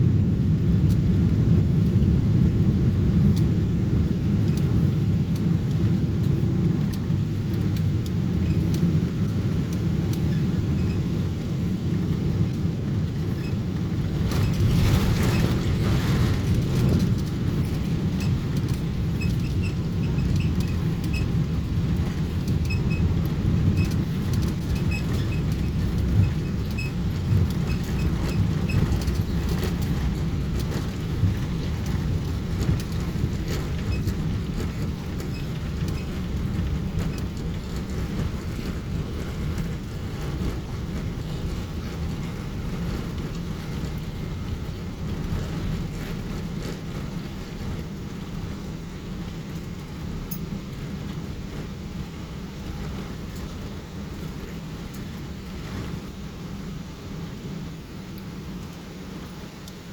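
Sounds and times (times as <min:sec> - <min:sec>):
low rumble of engines and wheels: 0:00.0 - 0:59.9.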